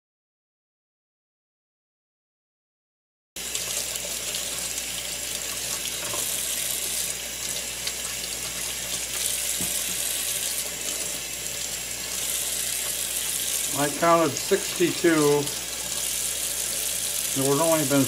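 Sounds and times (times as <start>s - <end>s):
faucet running into steel sink: 3.4s - 18.0s.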